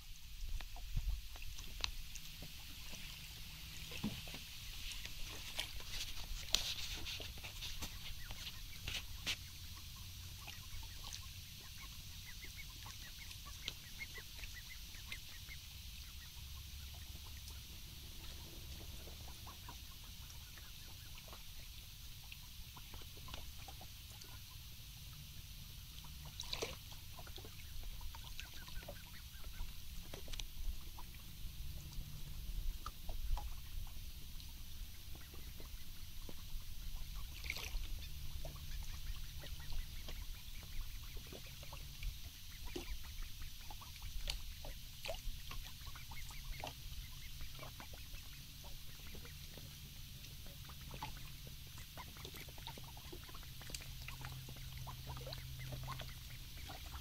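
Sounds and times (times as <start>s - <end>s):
ducks calling softly: 0.0s - 57.0s
ducks splashing and dabbling: 0.0s - 57.0s
low background rumble: 7.2s - 57.0s.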